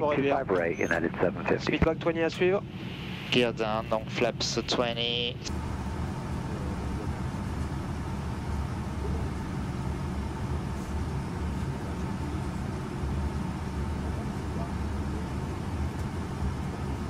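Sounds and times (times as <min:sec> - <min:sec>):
airflow and engine rumble: 0:00.0 - 0:17.0.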